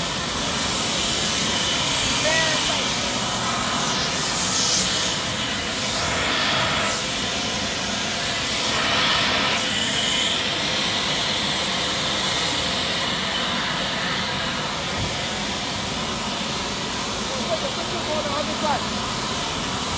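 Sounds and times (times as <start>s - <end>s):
faint high whine: 0.0s - 19.9s
jet engines running: 0.0s - 19.9s.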